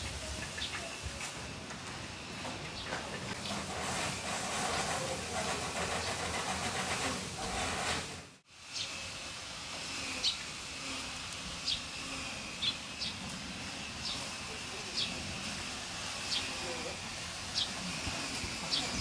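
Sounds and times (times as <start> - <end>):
outdoor ambience: 0.0 - 19.0
steady hissing noise: 0.0 - 19.0.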